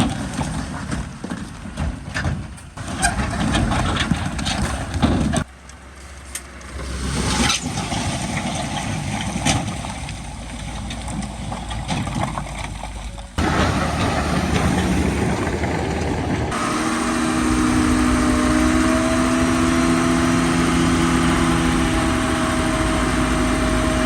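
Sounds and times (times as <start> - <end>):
heavy diesel engine running: 2.8 - 24.0.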